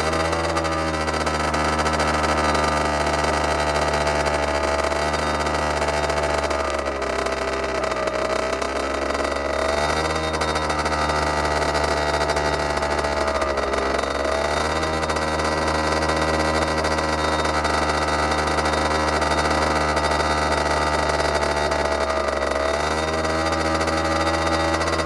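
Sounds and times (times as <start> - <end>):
two-stroke motorbike idling: 0.0 - 25.0.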